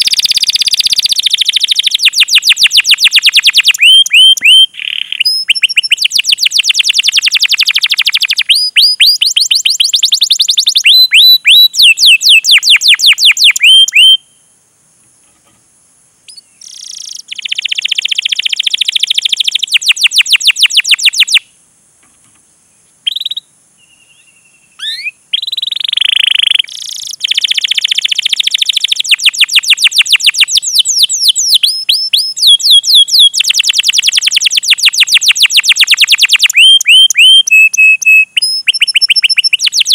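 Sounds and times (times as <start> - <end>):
canary singing: 0.0 - 14.5, 16.3 - 21.5, 22.9 - 39.9.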